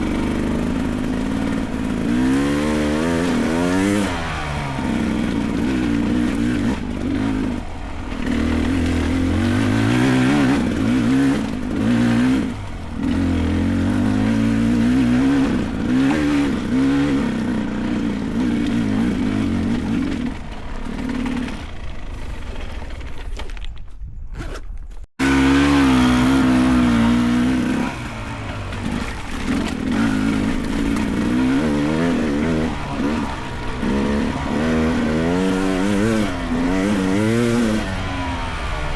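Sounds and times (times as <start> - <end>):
dirt bike engine revving: 0.0 - 22.7, 25.2 - 38.9.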